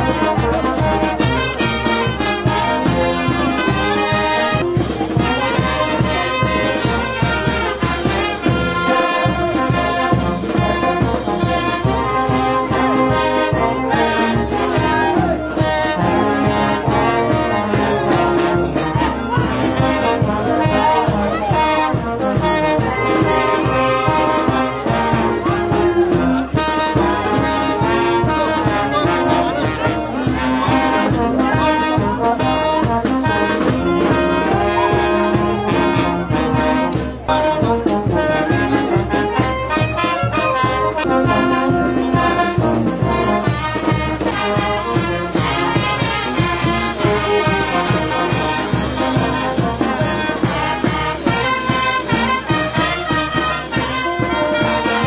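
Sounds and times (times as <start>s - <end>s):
brass band playing dance music: 0.0s - 55.0s.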